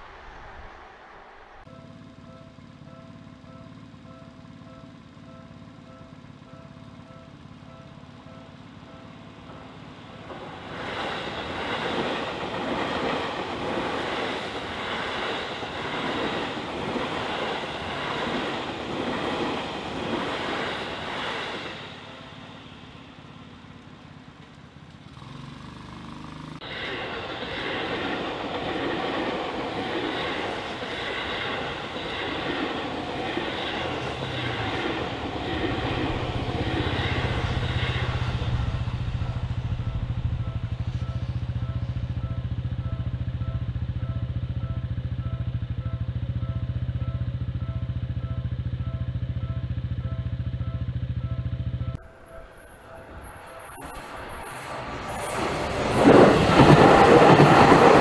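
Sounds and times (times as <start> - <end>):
electric train running noise: 0.0 - 58.0.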